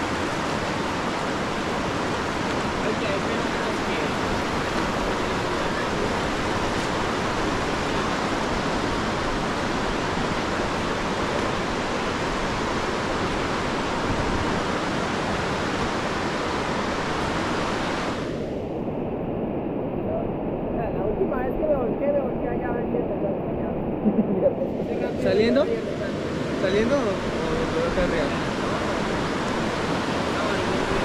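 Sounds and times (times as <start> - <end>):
river rapids rushing: 0.0 - 18.5, 24.6 - 31.0.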